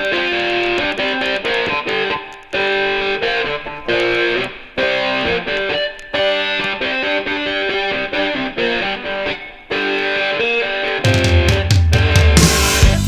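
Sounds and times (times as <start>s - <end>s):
distorted electric guitar riff: 0.0s - 13.0s.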